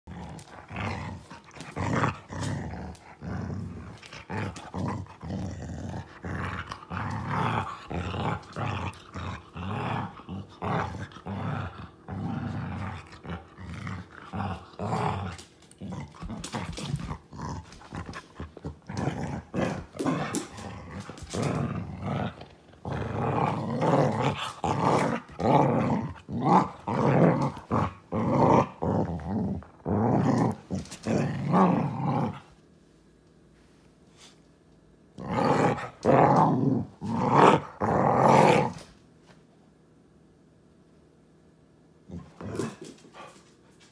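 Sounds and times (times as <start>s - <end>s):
dog growling playfully: 0.0s - 32.6s, 35.1s - 39.0s, 42.0s - 43.4s.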